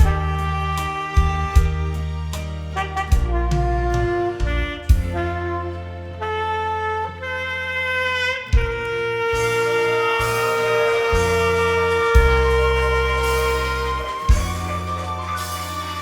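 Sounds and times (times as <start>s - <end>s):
backing track with bass and drums: 0.0s - 6.4s, 8.4s - 16.0s
alto saxophone melody: 0.0s - 16.0s.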